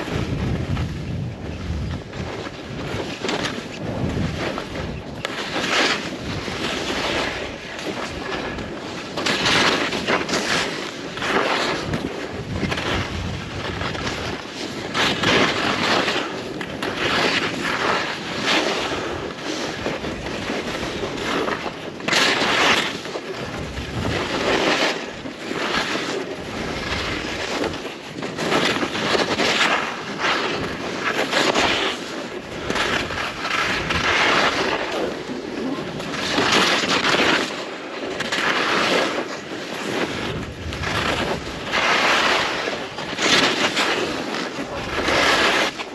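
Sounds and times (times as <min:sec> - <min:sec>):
wind rushing over microphone: 0:00.0 - 0:21.5, 0:22.5 - 0:25.3, 0:28.7 - 0:37.4, 0:39.2 - 0:45.9
skis scraping on snow: 0:00.0 - 0:45.9.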